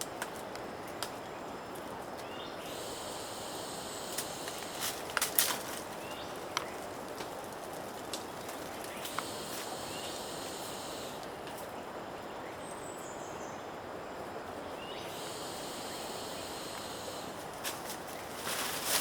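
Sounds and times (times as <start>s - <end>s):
forest hiss: 0.0s - 19.0s
high steady insect buzzing: 1.5s - 11.9s, 12.8s - 19.0s.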